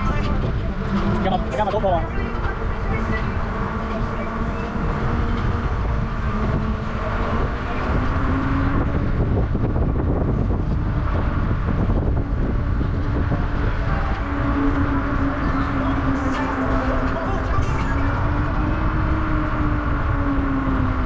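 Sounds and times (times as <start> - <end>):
passing vehicle hum: 0.0 - 21.0
road and traffic noise: 0.0 - 21.0
wind rumble on microphone: 0.0 - 21.0.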